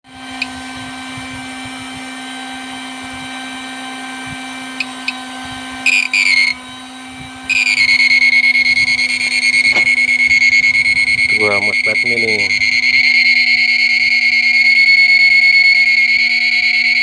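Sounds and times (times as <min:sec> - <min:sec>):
loud high-pitched whine: 0:00.0 - 0:17.0
circuit low hum: 0:00.1 - 0:17.0
faint high whine: 0:00.1 - 0:17.0.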